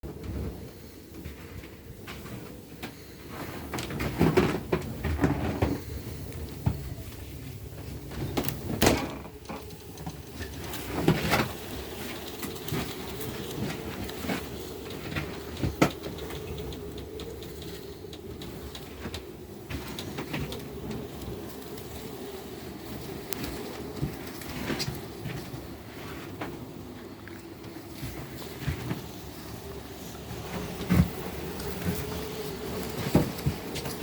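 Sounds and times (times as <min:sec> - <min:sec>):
blizzard wind blowing: 0:00.1 - 0:34.0.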